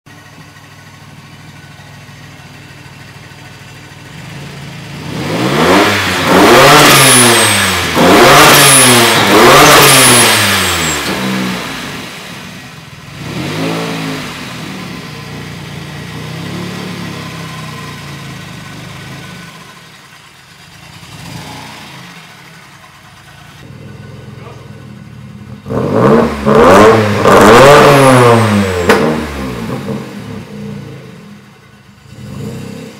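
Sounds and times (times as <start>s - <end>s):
car engine idling and revving: 0.1s - 32.9s.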